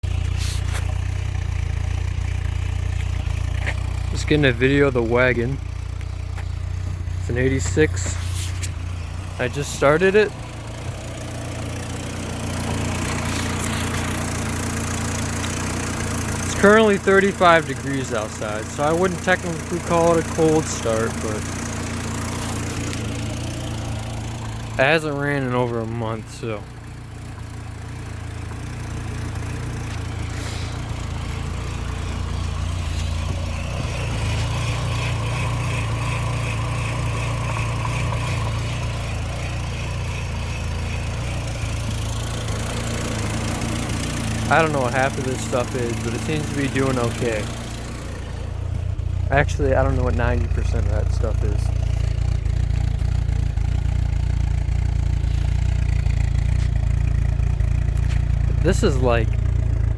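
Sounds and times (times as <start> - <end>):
car engine idling: 0.0 - 59.9
high engine whine: 0.0 - 59.9.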